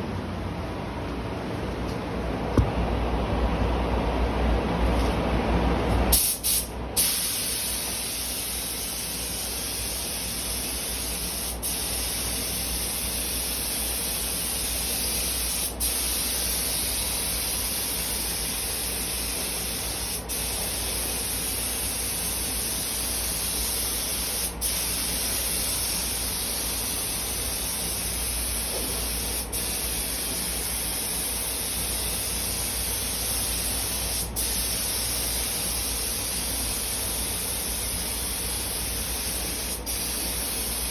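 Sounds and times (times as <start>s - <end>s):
paint spray gun hissing: 6.1s - 40.9s.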